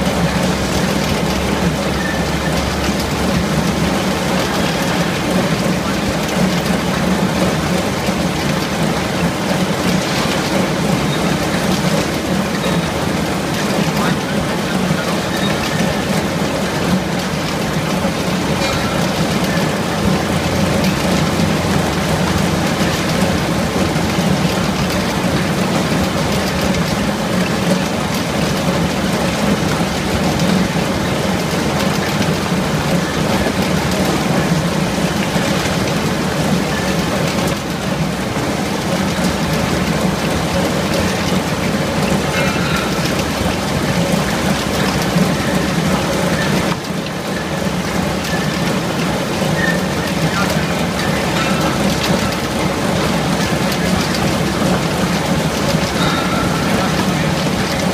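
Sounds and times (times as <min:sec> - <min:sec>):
root lifter machine running: 0:00.0 - 0:57.9.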